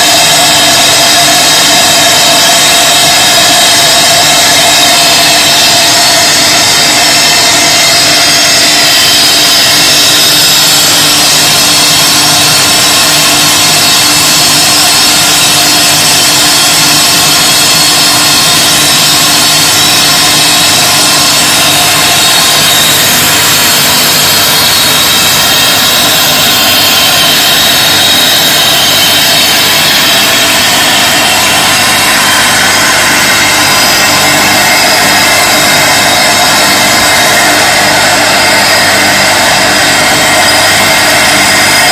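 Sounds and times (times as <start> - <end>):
production line machinery running: 0.0 - 41.9.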